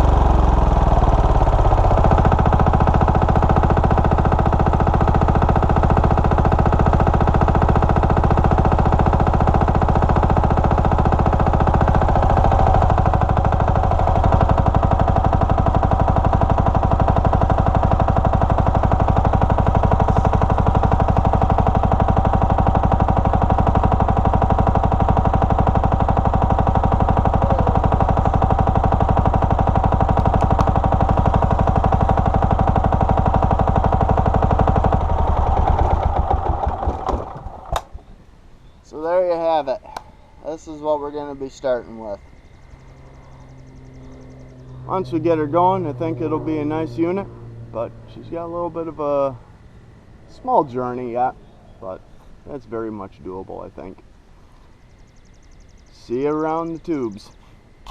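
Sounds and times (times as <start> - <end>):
diesel engine clattering: 0.0 - 57.9.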